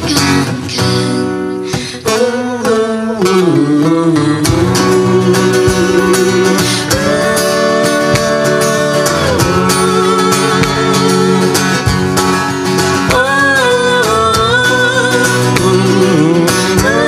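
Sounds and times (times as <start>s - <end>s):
acoustic guitar: 0.0s - 17.0s
ukulele: 3.2s - 17.0s.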